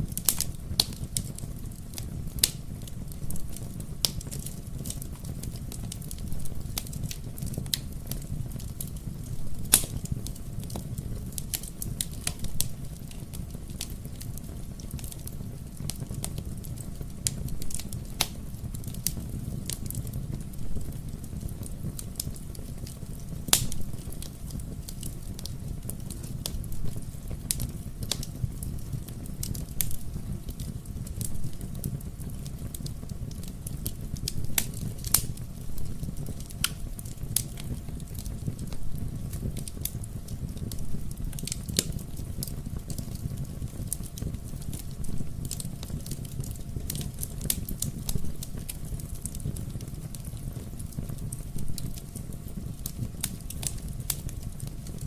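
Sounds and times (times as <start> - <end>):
fire flames rumbling: 0.0 - 55.0
wood fire crackling and popping: 0.0 - 55.0.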